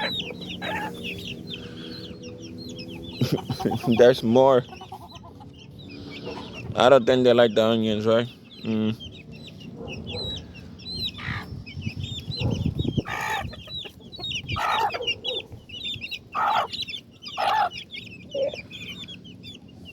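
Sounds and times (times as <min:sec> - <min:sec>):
chickens clucking and squawking: 0:00.0 - 0:19.9
small birds chirping: 0:00.0 - 0:19.9.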